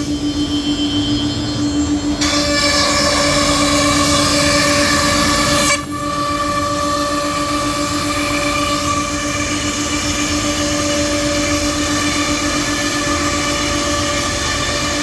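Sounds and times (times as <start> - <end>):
router spindle whine: 0.0 - 15.0
router cutting wood panels: 2.1 - 15.0.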